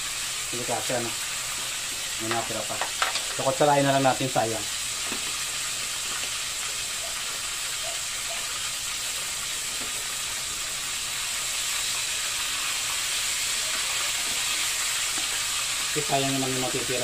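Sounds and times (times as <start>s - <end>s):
ribs sizzling in a wok: 0.0s - 17.0s.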